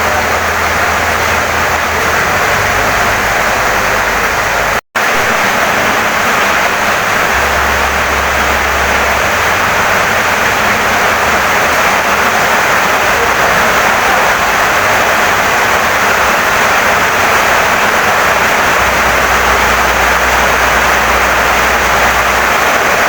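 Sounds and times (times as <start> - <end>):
heavy rain on wooden house: 0.0 - 23.0.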